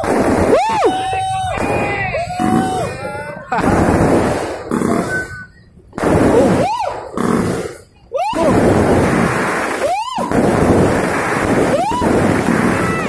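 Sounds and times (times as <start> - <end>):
fireworks bangs and crackle: 0.0 - 13.0
rising and falling firework whistles: 0.0 - 13.0.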